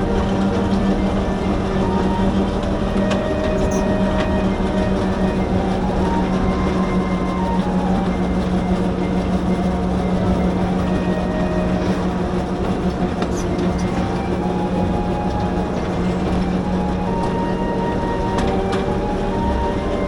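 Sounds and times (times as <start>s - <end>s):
train engine hum: 0.0s - 20.0s
wheel and rail noise: 0.0s - 20.0s.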